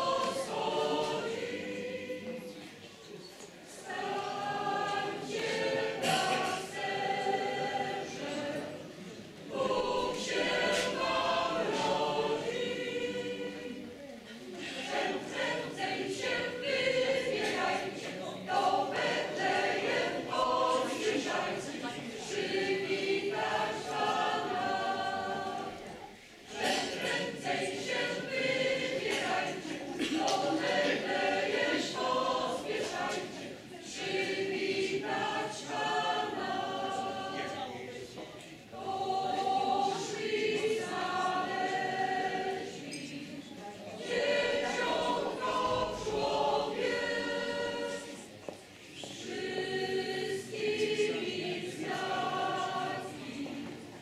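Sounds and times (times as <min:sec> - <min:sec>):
mixed choir singing unaccompanied: 0:00.0 - 0:54.0.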